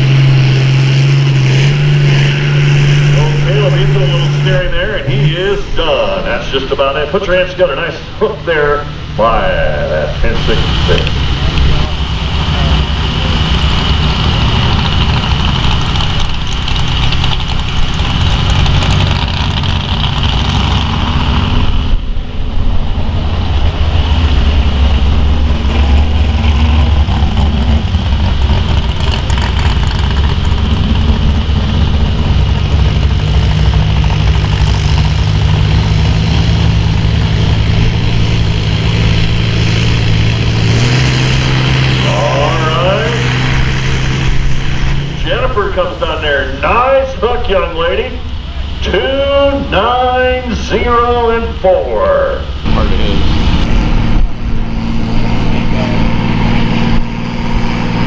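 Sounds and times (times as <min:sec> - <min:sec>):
tractor diesel engine at full load: 0:00.0 - 0:58.0.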